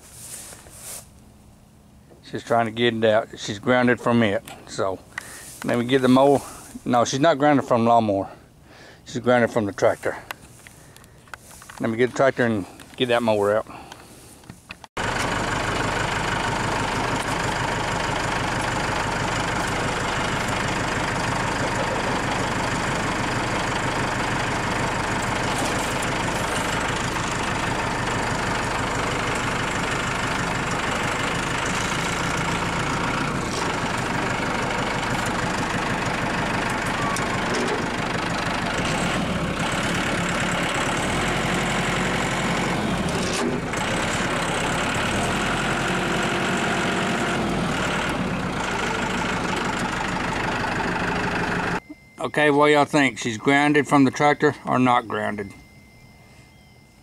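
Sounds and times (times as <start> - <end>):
tractor engine running: 9.3 - 56.2.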